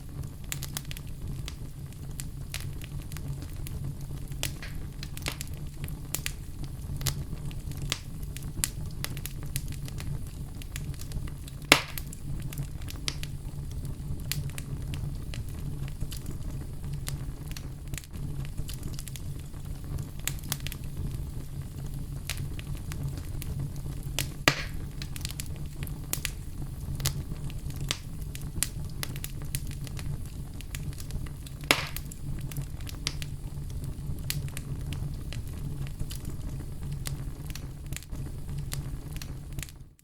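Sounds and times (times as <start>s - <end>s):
fire crackling and popping: 0.0s - 40.0s
low rumble of flame: 0.0s - 40.0s.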